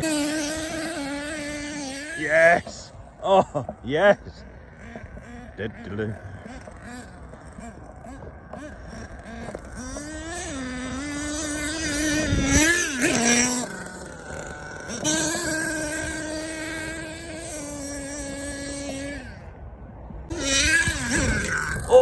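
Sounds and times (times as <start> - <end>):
rc truck engine high buzz: 0.0 - 22.0.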